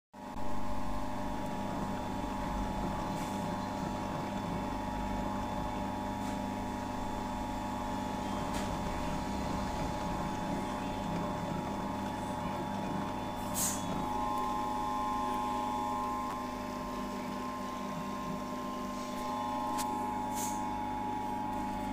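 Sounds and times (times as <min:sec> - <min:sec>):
mixer motor humming and whining: 0:00.2 - 0:21.9.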